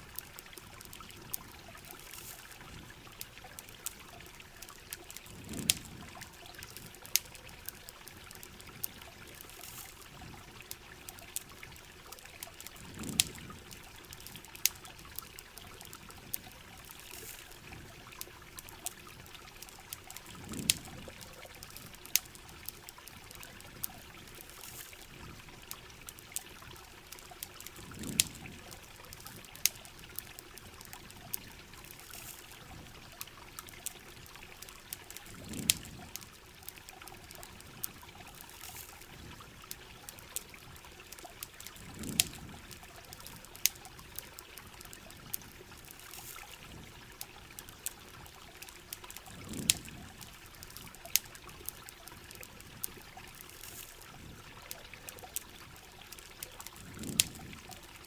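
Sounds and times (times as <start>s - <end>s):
campfire crackling: 0.0s - 58.0s
trickling pouring water: 0.0s - 58.0s.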